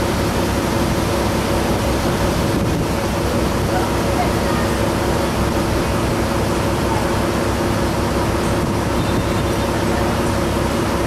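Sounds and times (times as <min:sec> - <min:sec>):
ferry engine drone: 0:00.0 - 0:11.0.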